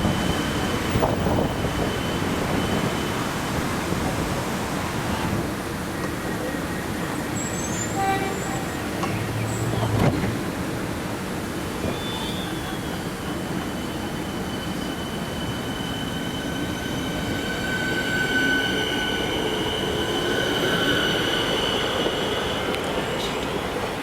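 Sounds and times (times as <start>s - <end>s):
train wheels squealing: 0.0s - 4.7s, 5.7s - 10.0s, 11.5s - 24.0s
train running rumble: 0.0s - 24.0s.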